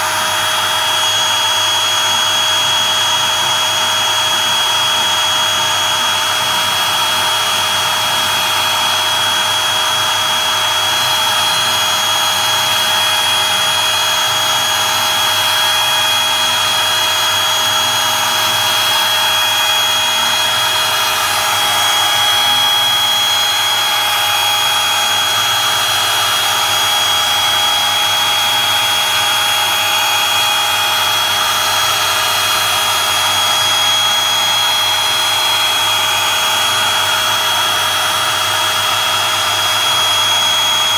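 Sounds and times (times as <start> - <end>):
cutter cutting plywood: 0.0 - 40.9
router high whine: 0.0 - 40.9.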